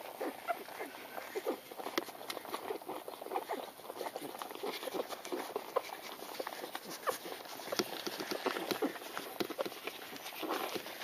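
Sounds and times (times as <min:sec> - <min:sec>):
puppies squeaking and grunting: 0:00.0 - 0:11.0.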